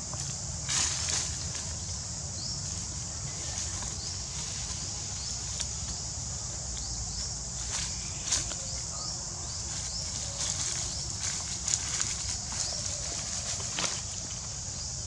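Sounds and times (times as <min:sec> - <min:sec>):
high-pitched insect drone: 0:00.0 - 0:15.0
dry leaves crackling: 0:00.3 - 0:15.0.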